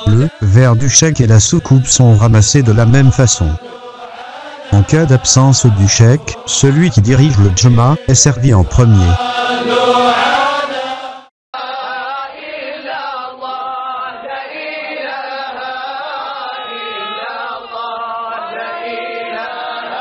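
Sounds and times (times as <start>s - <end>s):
men chanting devotional song: 0.0s - 20.0s.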